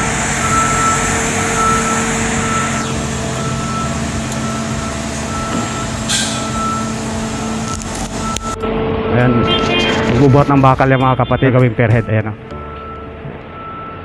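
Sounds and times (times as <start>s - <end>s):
crane engine running: 0.0s - 10.9s, 11.9s - 14.0s
back-up alarm beeping: 0.4s - 14.0s.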